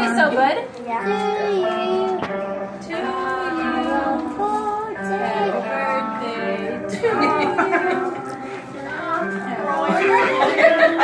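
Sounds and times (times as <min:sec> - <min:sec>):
person singing slow melody: 0:01.0 - 0:11.0.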